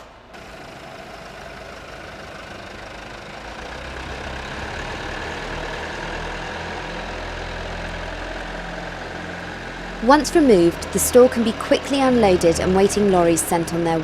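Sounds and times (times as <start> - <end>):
loading machine engine running: 0.0 - 14.0.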